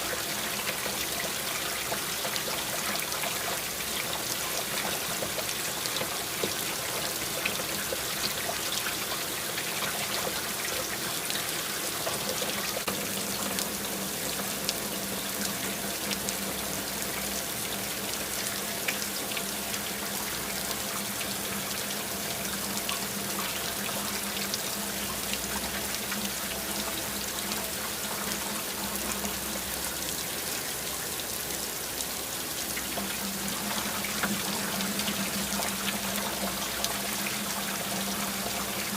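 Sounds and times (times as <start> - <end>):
water running and trickling: 0.0 - 38.9.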